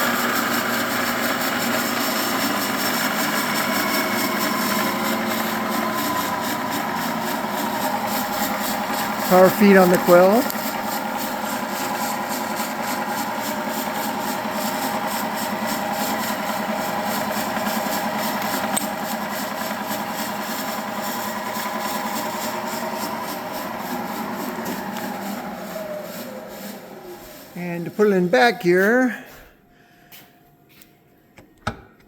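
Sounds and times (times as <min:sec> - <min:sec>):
milling machine running: 0:00.0 - 0:28.6.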